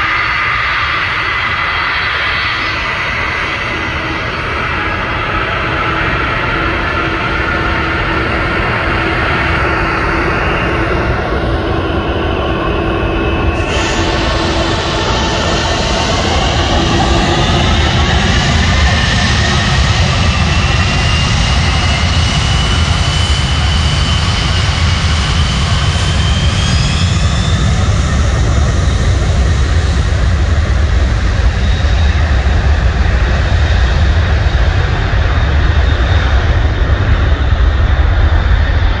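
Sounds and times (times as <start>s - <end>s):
jet engines rumbling with fan whine: 0.0s - 39.0s.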